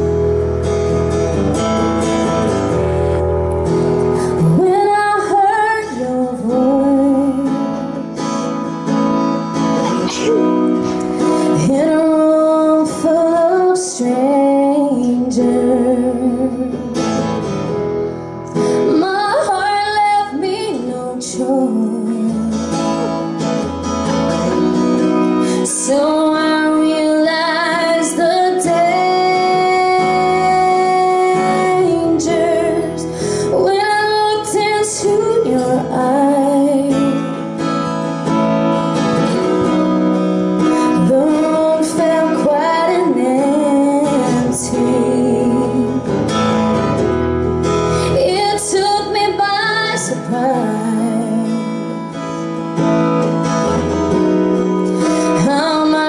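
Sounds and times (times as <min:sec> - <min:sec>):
acoustic guitar: 0:00.0 - 0:56.0
woman singing into a microphone: 0:04.0 - 0:17.4, 0:18.6 - 0:47.0, 0:47.7 - 0:52.5, 0:54.1 - 0:56.0.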